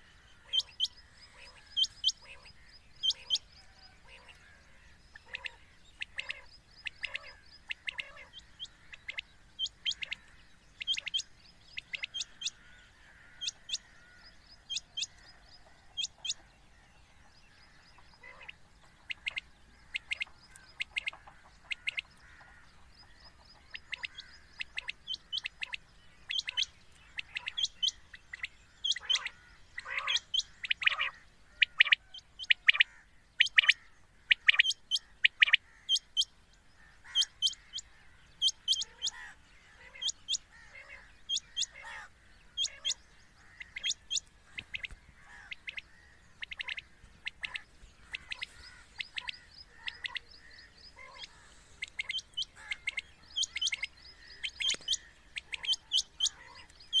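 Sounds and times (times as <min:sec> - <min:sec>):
quail calling: 0:00.0 - 0:16.9, 0:17.5 - 0:57.0.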